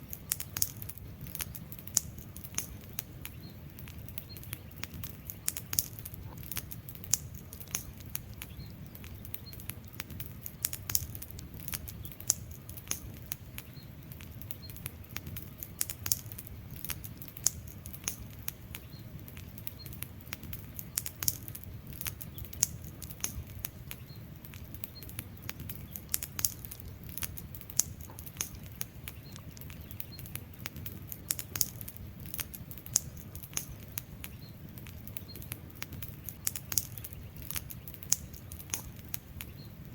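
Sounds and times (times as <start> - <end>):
burning logs crackling: 0.0 - 39.9
flames rushing: 0.0 - 39.9.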